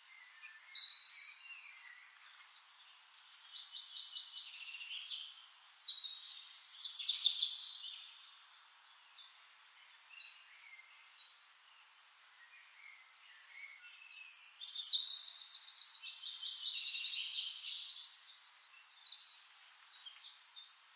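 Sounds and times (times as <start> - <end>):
songbirds singing: 0.0 - 20.9.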